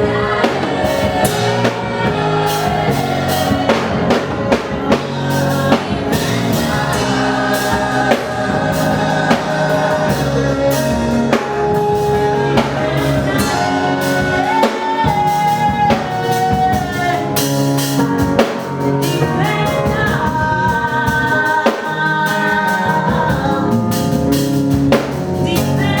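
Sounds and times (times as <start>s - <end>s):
drum kit and instruments: 0.0s - 26.0s
gospel singing: 0.0s - 26.0s.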